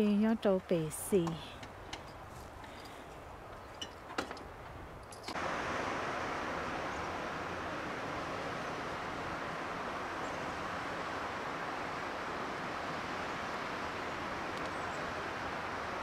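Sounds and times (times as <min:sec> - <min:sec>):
rushing wind: 0:01.4 - 0:16.0.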